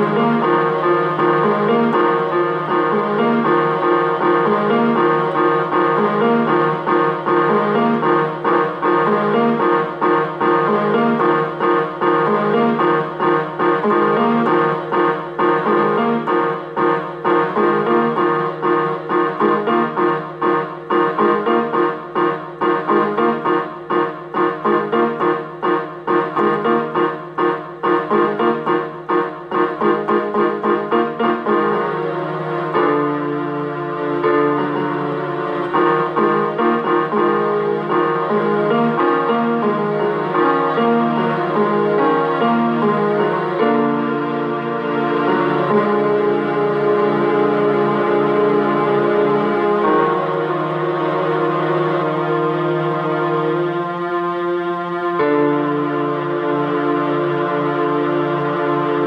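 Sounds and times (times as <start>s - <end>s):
piano keyboard music: 0.0s - 59.0s.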